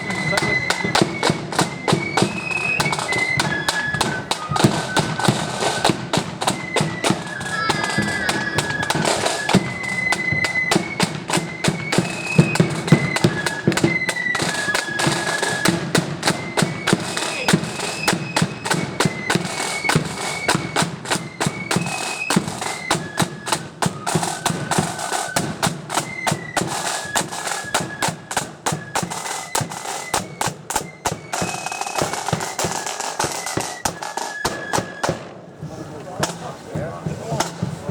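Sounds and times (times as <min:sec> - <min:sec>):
flutes playing melody: 0:00.0 - 0:37.9
snare and bass drums beat: 0:00.0 - 0:37.9.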